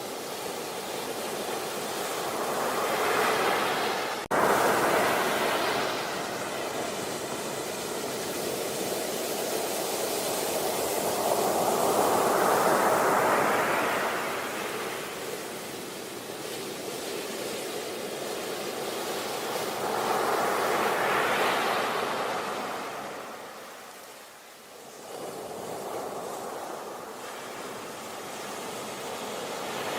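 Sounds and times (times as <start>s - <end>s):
sea waves breaking on beach: 0.0s - 29.9s.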